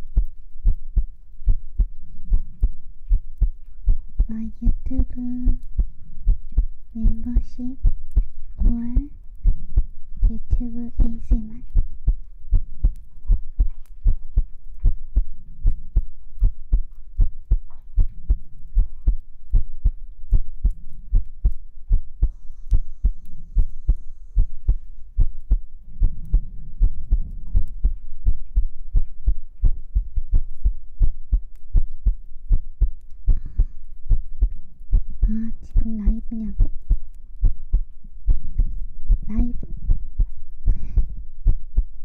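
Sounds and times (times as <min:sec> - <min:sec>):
heartbeat thumps: 0:00.0 - 0:42.0.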